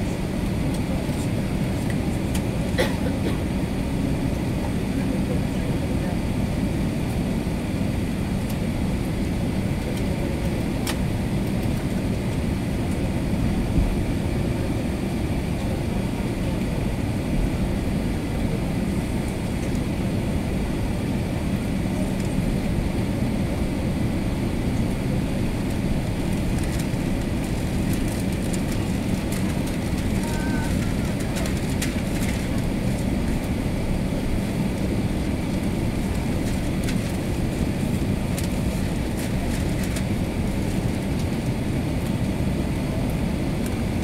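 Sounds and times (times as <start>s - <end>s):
aircraft engines rumbling: 0.0s - 44.0s.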